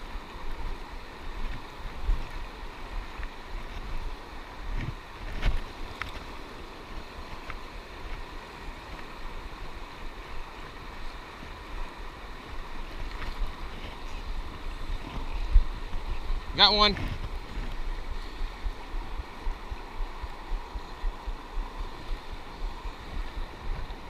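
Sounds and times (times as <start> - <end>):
flowing river water: 0.0 - 24.0
wind buffeting microphone: 0.0 - 24.0.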